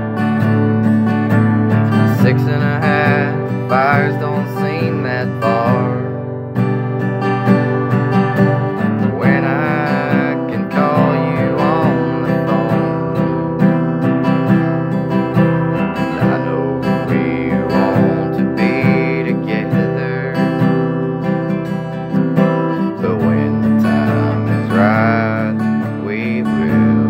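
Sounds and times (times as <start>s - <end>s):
acoustic guitar strumming: 0.0s - 27.0s
man singing: 1.7s - 6.4s, 8.6s - 27.0s.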